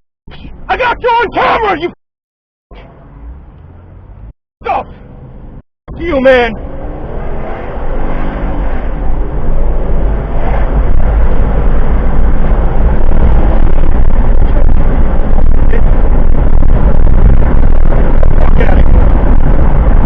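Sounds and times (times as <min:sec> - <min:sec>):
car engine and road rumble: 0:00.3 - 0:01.9, 0:02.7 - 0:20.0.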